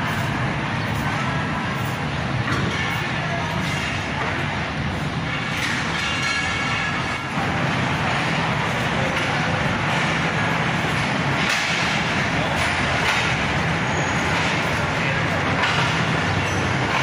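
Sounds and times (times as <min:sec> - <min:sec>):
passenger train rumble: 0:00.0 - 0:17.0.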